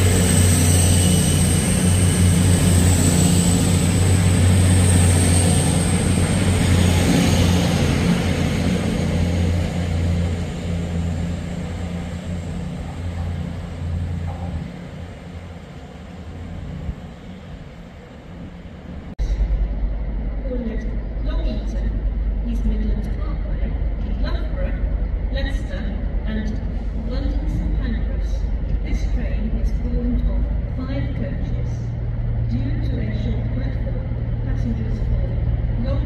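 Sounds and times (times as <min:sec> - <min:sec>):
diesel train engine drone: 0:00.0 - 0:36.0.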